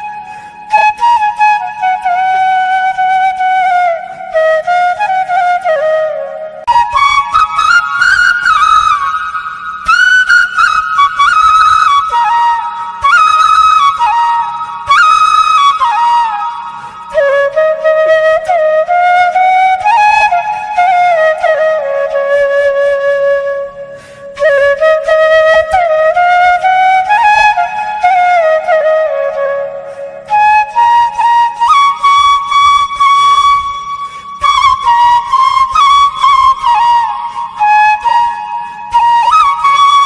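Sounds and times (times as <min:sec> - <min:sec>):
flute playing slow melody: 0:00.0 - 0:40.0.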